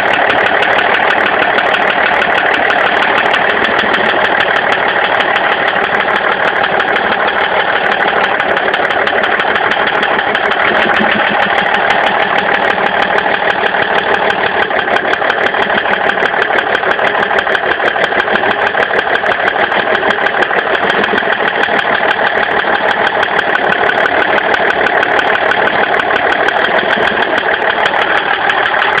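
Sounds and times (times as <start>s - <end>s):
diesel engine running with knock: 0.0s - 29.0s.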